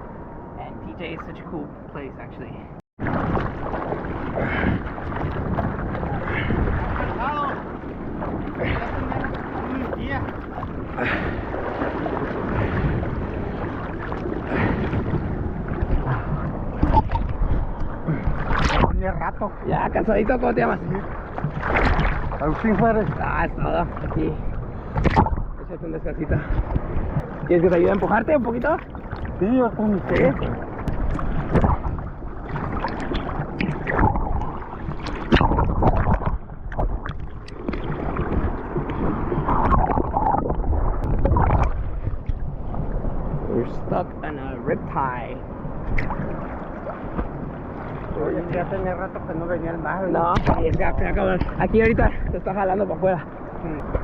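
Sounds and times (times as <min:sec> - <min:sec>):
water splashing and sloshing: 0:00.0 - 0:54.0
wind on microphone: 0:00.0 - 0:54.0.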